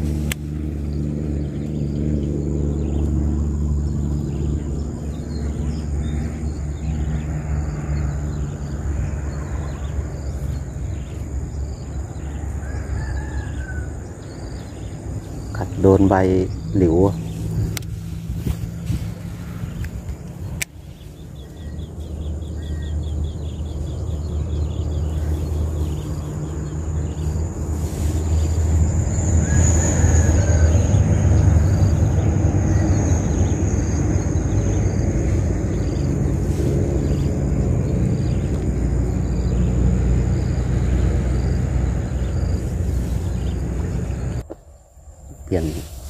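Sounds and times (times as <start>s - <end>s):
passing vehicle engine rumble: 0.0s - 46.0s.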